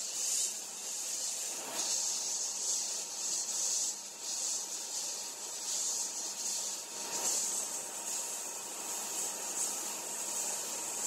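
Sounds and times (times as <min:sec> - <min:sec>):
sandblast gun hissing: 0:00.0 - 0:11.0.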